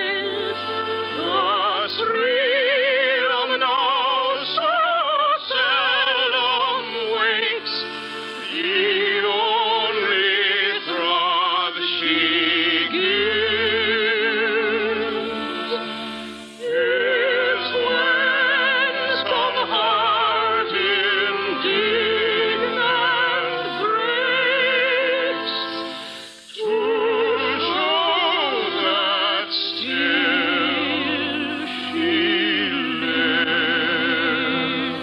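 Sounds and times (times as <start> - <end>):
instrumental accompaniment: 0.0 - 35.0
operatic singing: 0.0 - 35.0.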